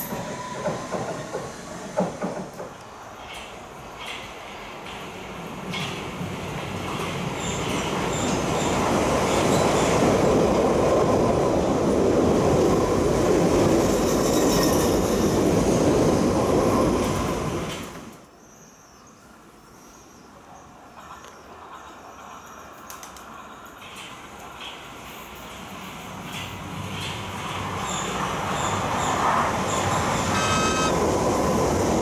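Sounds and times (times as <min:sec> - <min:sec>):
train rushing past: 0:00.0 - 0:18.2, 0:23.3 - 0:32.0.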